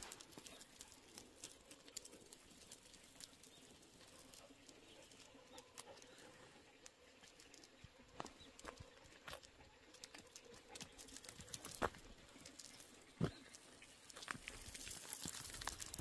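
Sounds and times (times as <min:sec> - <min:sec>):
dog paws ticking on road: 0:00.0 - 0:16.0
footsteps on paved road: 0:00.0 - 0:16.0.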